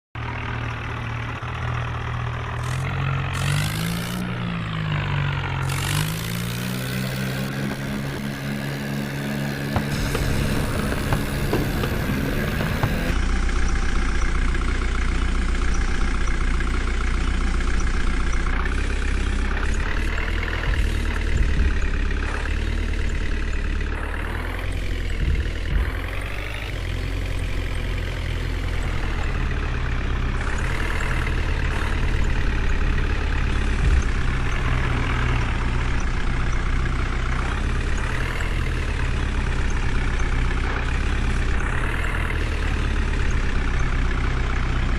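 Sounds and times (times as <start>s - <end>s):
heavy diesel engine running: 0.2s - 44.9s.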